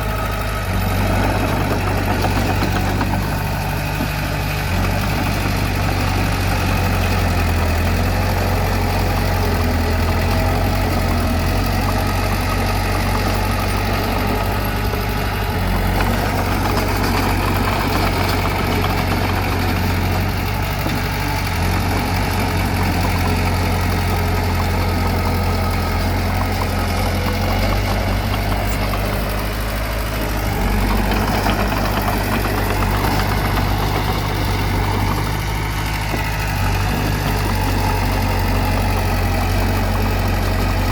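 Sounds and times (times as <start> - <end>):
bulldozer diesel engine idling: 0.0 - 40.9.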